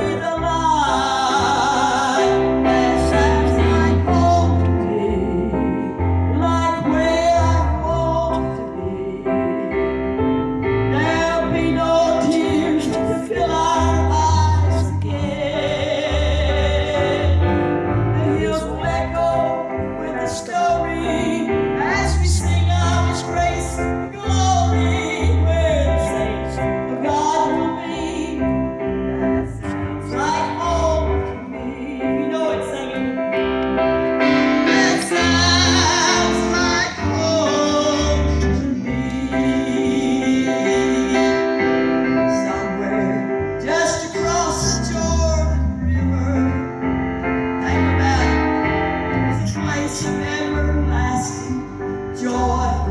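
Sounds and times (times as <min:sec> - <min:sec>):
gospel singing: 0:00.0 - 0:52.9
instrumental accompaniment: 0:00.0 - 0:52.9
sustained bass line: 0:00.0 - 0:52.9.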